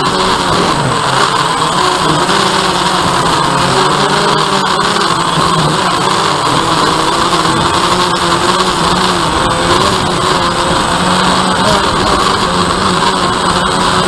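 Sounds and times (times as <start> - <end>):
quadcopter propellers whirring: 0.0 - 14.0.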